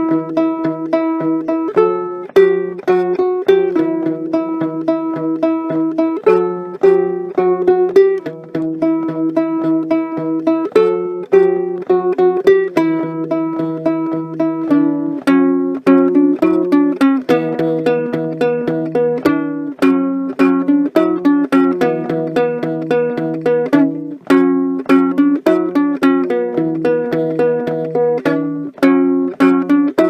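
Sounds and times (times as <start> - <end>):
ukulele plucked notes and chords: 0.0 - 30.0.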